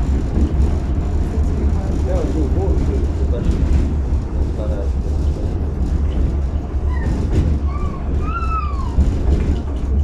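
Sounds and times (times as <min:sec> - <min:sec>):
tram wheels rumbling on track: 0:00.0 - 0:10.0.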